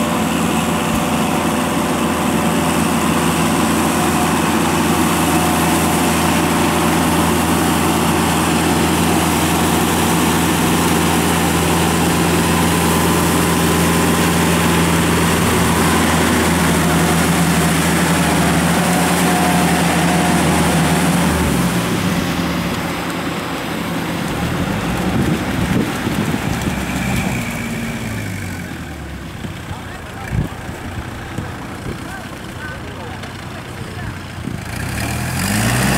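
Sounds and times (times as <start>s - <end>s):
diesel tractor engines running: 0.0s - 35.9s.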